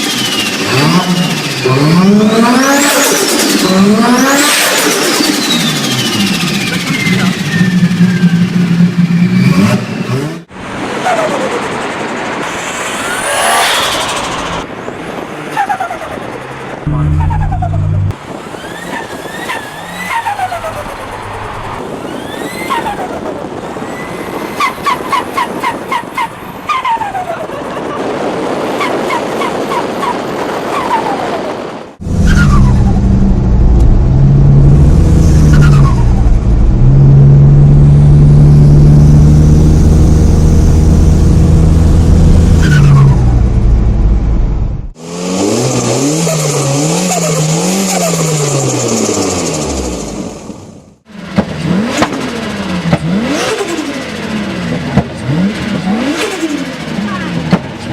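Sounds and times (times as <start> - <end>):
car engine revving: 0.2 - 23.8, 32.0 - 57.9.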